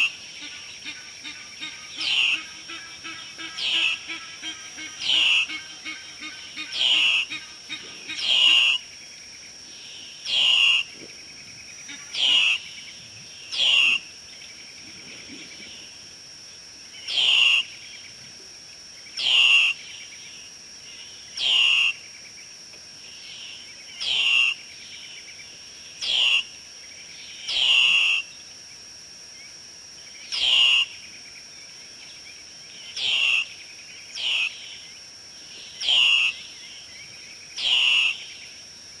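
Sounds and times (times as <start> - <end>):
steady high-pitched hum: 0.0 - 39.0.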